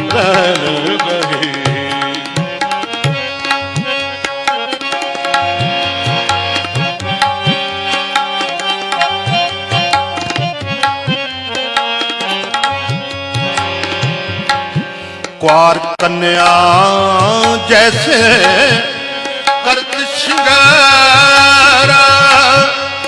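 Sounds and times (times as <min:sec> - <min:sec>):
harmonium melody: 0:00.0 - 0:23.0
tabla playing a busy rhythm: 0:00.0 - 0:23.0.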